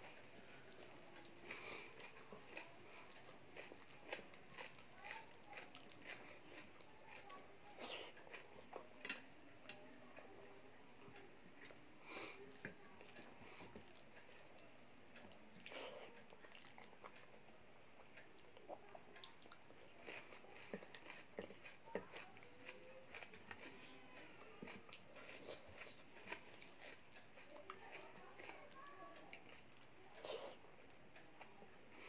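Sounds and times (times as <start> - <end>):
faint chewing: 0.0 - 32.0.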